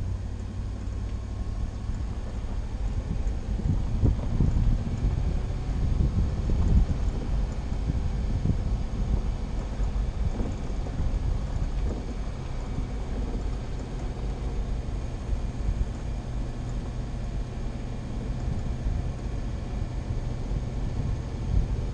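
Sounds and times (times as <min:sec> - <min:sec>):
vehicle rumbling on dirt road: 0:00.0 - 0:21.9.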